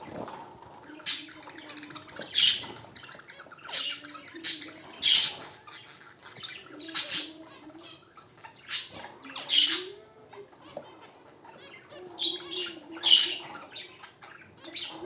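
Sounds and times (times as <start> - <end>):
soft bird chatter: 0.0 - 15.0.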